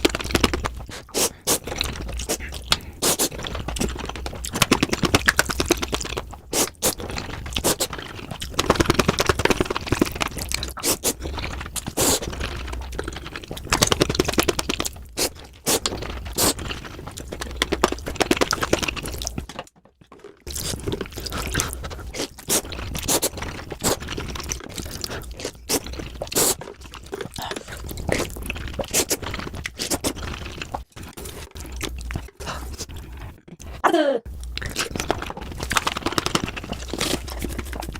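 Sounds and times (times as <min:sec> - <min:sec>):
rapid chewing of noodles: 0:00.0 - 0:37.9.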